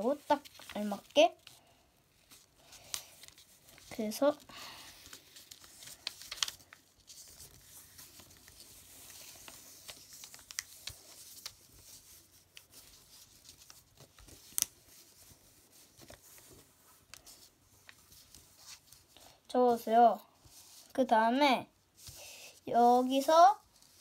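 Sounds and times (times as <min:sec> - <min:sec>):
paper rustling and crinkling: 0:00.0 - 0:19.2, 0:23.5 - 0:24.0.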